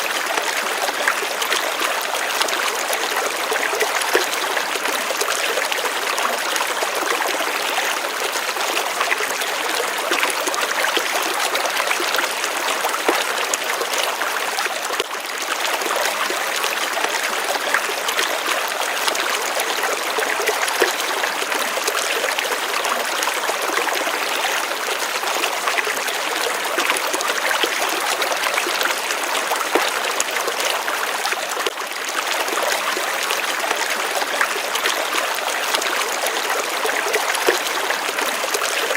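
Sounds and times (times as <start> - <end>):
running water flowing: 0.0 - 38.9.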